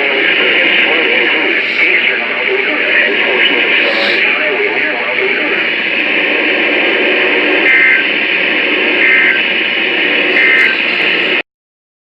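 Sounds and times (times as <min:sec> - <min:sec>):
short data bursts: 0:00.0 - 0:11.4
loud radio static: 0:00.0 - 0:11.5.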